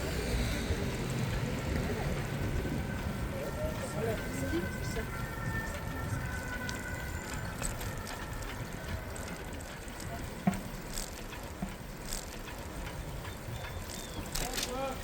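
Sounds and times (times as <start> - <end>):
traffic and tyres rumbling: 0.0 - 15.0.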